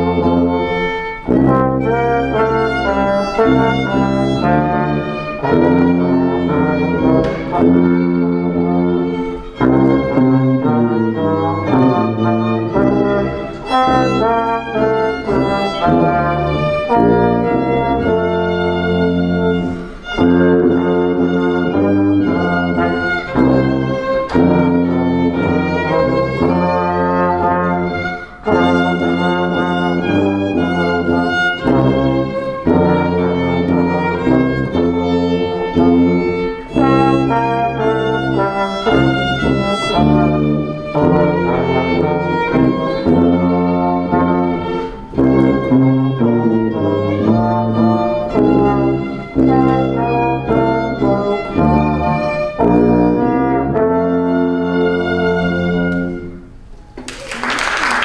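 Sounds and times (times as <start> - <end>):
trombone: 0.0 - 56.6
violin melody: 0.0 - 57.0.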